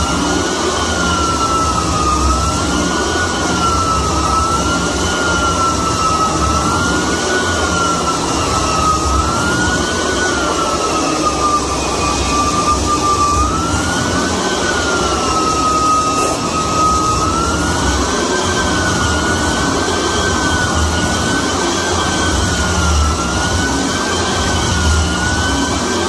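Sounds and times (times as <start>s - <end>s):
floor edger motor whine: 0.0s - 26.0s.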